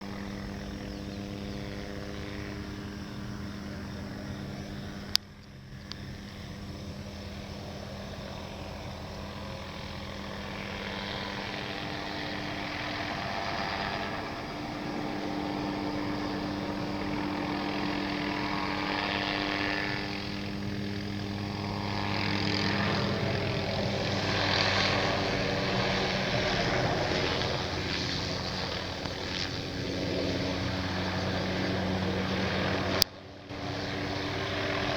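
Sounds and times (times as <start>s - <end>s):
helicopter flying: 0.0s - 34.9s.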